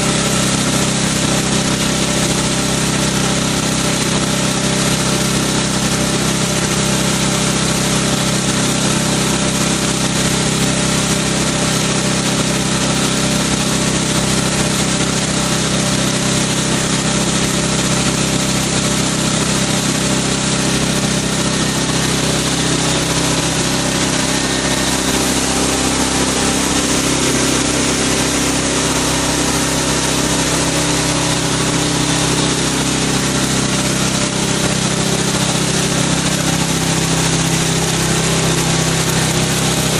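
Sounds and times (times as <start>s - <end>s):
pump motor hum: 0.0s - 39.9s.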